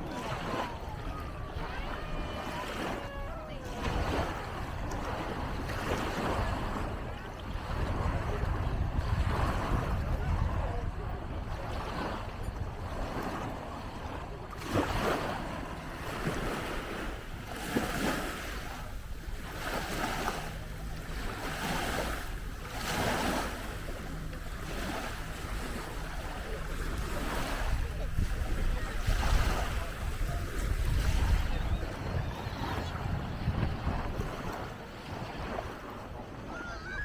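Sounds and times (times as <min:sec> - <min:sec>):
small waves washing on beach: 0:00.0 - 0:37.0
wind rumble on microphone: 0:00.0 - 0:37.0.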